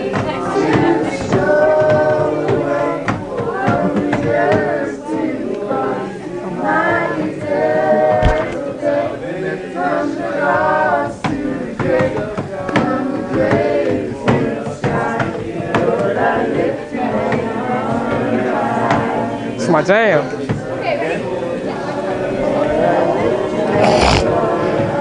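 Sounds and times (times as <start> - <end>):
groups singing worship songs: 0.0 - 25.0.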